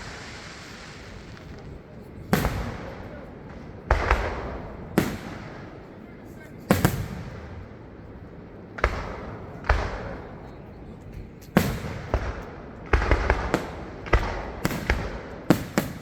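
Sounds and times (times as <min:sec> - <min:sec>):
fireworks bursting with rumble: 0:00.0 - 0:16.0.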